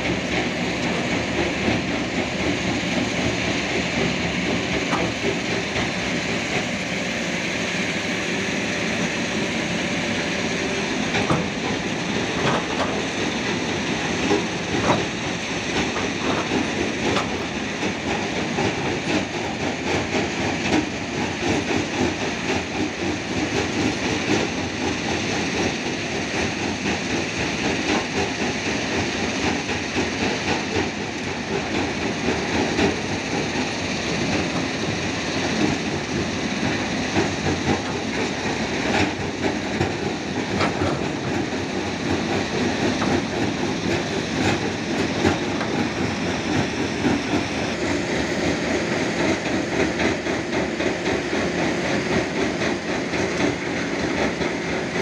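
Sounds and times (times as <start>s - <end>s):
excavator engine: 0.0s - 55.0s.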